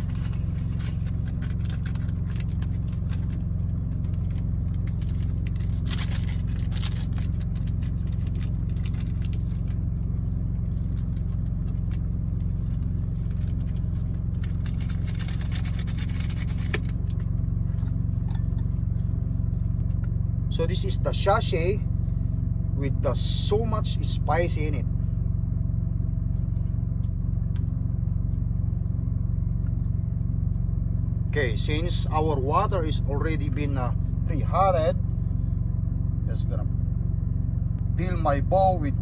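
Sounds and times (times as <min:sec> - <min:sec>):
engine idling hum: 0:00.0 - 0:39.0.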